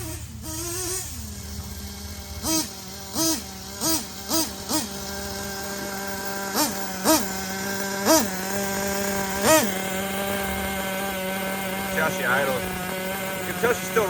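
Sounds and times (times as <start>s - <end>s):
engine revving blips: 0.0s - 14.0s
small nitro engine idling: 0.0s - 14.0s.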